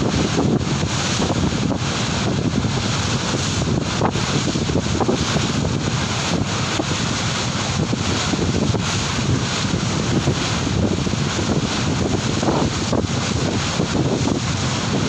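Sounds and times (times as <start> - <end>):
water splashing along boat hull: 0.0 - 15.0
wind buffeting microphone: 0.0 - 15.0.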